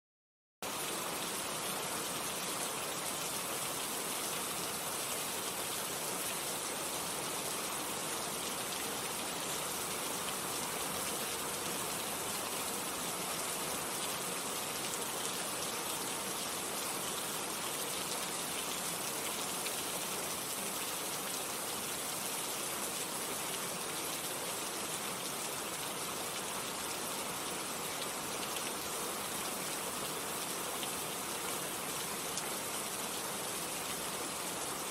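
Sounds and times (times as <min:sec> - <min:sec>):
heavy rain: 0:00.6 - 0:34.9.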